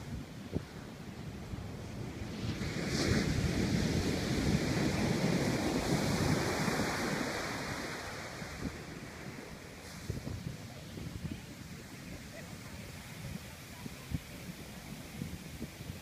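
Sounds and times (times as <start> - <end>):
surf breaking on beach: 1.4 - 16.0.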